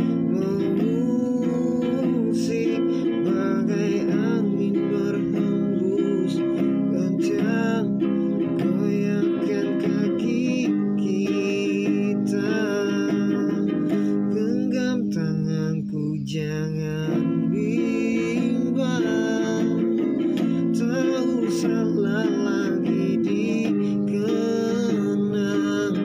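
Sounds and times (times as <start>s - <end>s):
classical guitar: 0.0s - 26.0s
man singing: 0.0s - 26.0s.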